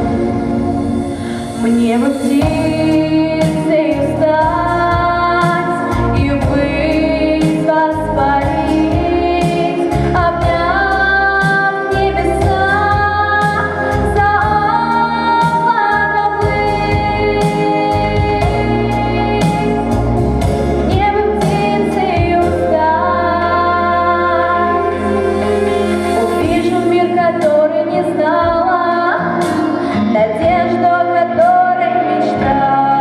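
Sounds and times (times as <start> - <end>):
instrumental accompaniment with beat: 0.0 - 33.0
girl singing into a microphone: 1.2 - 19.8, 20.9 - 25.1, 26.2 - 33.0.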